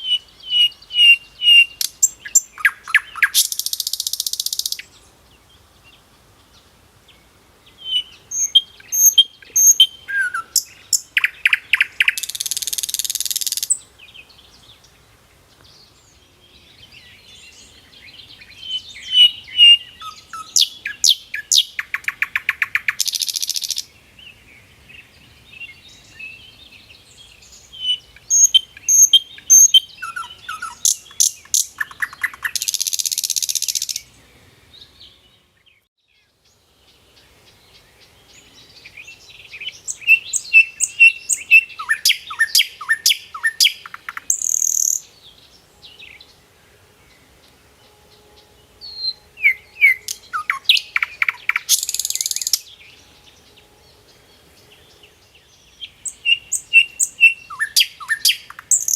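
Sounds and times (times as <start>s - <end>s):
songbird chirping with harsh buzz: 0.0s - 58.9s.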